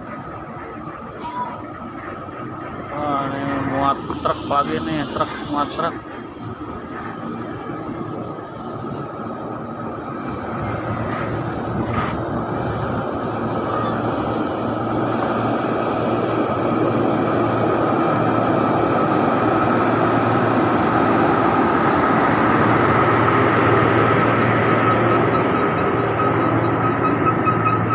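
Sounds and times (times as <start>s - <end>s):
heavy truck diesel engine: 0.0s - 27.9s.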